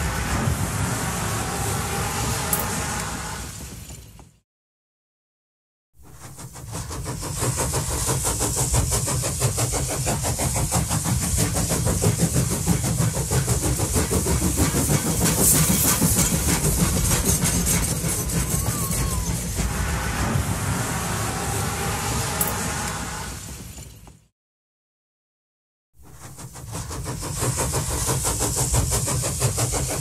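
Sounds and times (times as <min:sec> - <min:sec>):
steam train running: 0:00.0 - 0:04.4, 0:06.0 - 0:24.3, 0:26.0 - 0:30.0.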